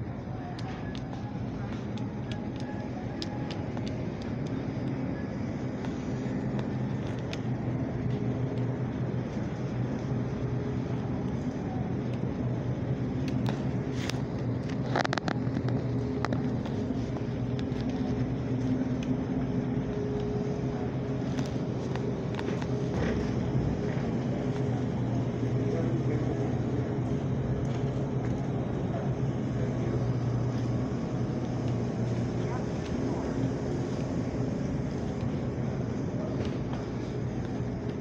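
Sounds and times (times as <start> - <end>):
refrigerator and ventilation hum: 0.0 - 38.0.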